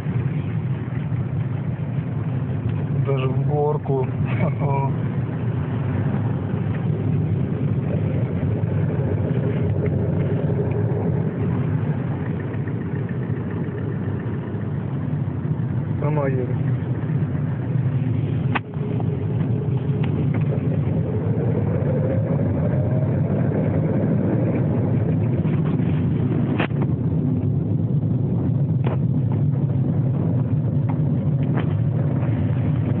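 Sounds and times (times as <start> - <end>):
faint rising whine: 0.0 - 33.0.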